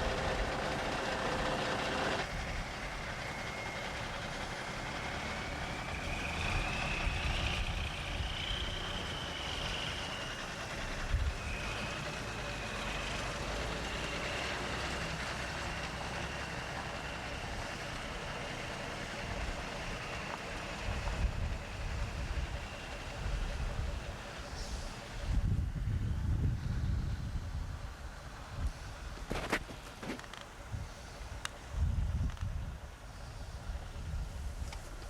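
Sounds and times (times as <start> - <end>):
diesel truck engine running: 0.0 - 35.0
road rumble: 0.0 - 35.0.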